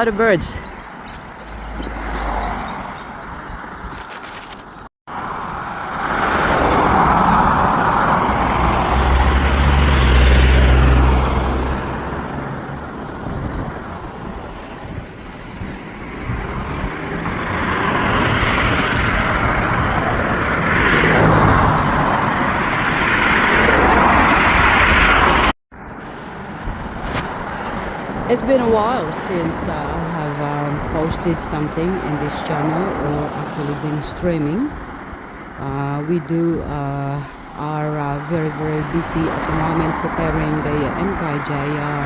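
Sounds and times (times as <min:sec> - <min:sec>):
heavy vehicle engine rumble: 0:00.0 - 0:42.0
vehicles passing: 0:00.0 - 0:42.0.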